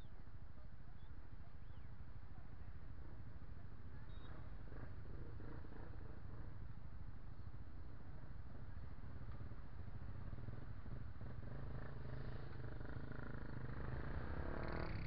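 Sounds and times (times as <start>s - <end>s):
motorcycle engines idling: 0.1s - 14.2s.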